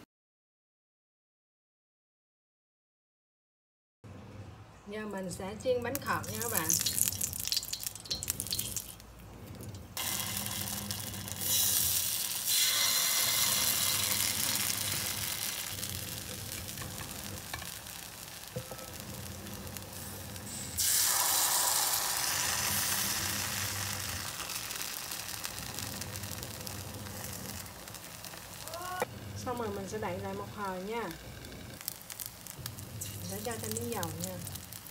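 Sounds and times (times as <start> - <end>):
batter sizzling in hot oil: 5.8 - 34.9.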